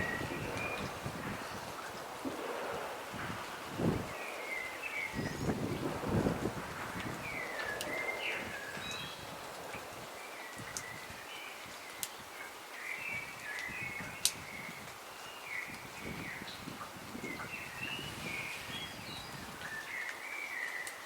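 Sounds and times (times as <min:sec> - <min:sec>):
faint outdoor hiss: 0:00.0 - 0:21.0
songbird chirping: 0:00.0 - 0:21.0.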